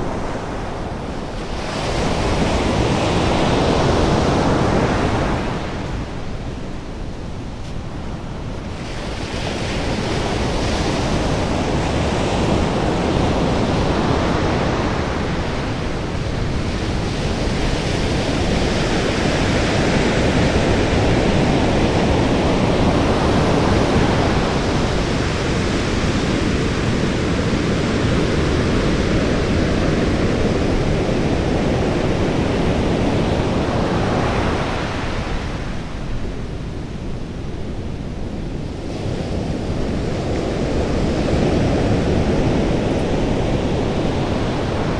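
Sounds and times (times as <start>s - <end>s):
surf breaking on a beach: 0.0s - 44.9s
wind rumbling on microphone: 0.0s - 44.9s.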